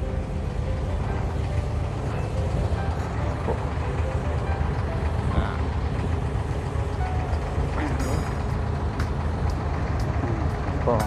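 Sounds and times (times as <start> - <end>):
diesel boat engine idling: 0.0 - 11.0.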